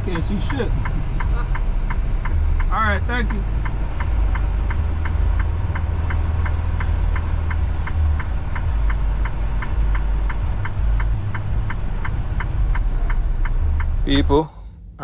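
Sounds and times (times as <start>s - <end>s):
diesel engine running: 0.0s - 14.5s.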